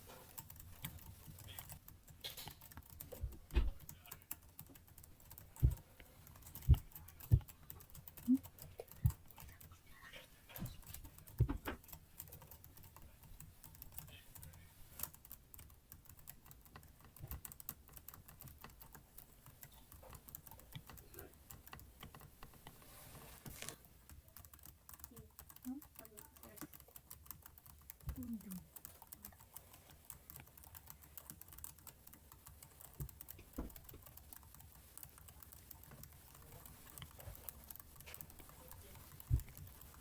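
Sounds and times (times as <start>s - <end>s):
computer keyboard keys clicking: 0.1s - 22.8s, 23.6s - 40.0s.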